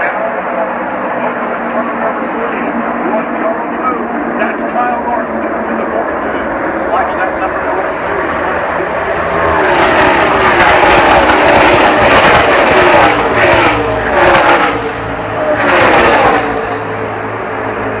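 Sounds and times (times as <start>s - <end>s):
race cars passing at speed: 0.0s - 18.0s.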